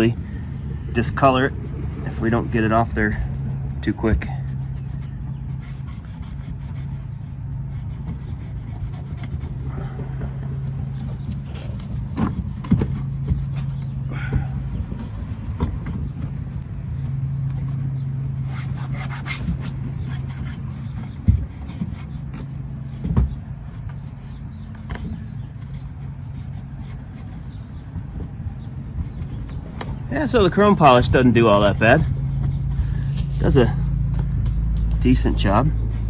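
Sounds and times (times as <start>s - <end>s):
low hum: 0.1s - 36.0s
rag rubbing chrome: 0.8s - 34.1s.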